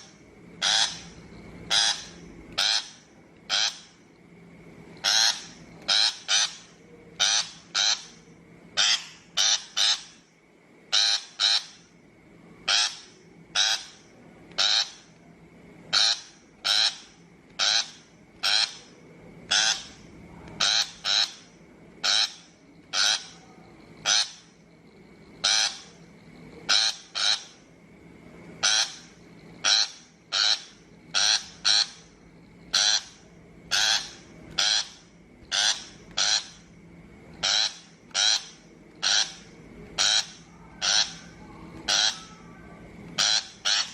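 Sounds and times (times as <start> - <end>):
shrike harsh grating calls: 0.0 - 4.0, 5.0 - 10.3, 10.9 - 12.0, 12.6 - 15.1, 15.8 - 24.7, 25.4 - 27.7, 28.6 - 36.7, 37.3 - 43.9.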